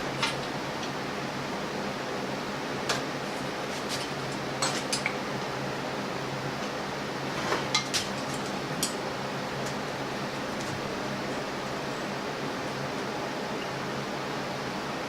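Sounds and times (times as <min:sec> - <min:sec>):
steady hiss with low hum: 0:00.0 - 0:15.0.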